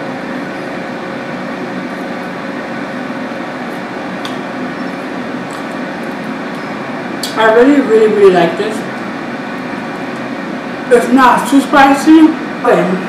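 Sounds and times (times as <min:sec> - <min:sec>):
air fryer fan humming: 0:00.0 - 0:13.0.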